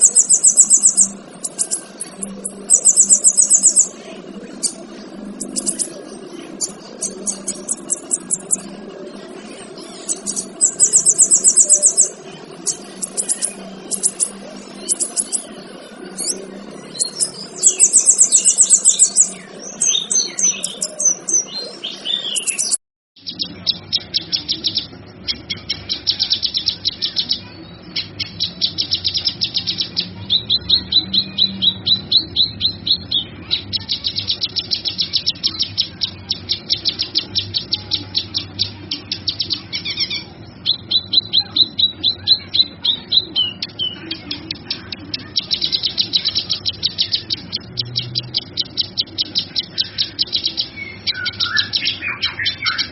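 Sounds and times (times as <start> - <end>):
bird singing trills and whistles: 0.0 - 52.9
rapid high bird chirping: 0.0 - 52.9.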